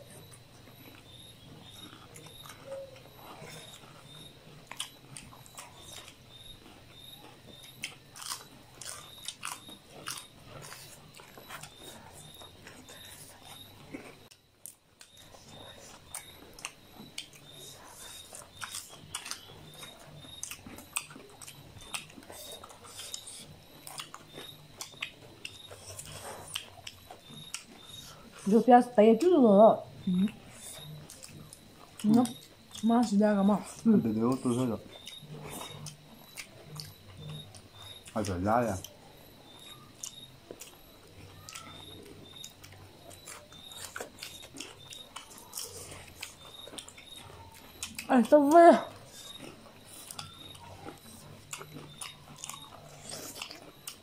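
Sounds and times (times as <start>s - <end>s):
chewing and wet mouth sounds: 0.0s - 54.0s
faint low hum: 0.0s - 54.0s.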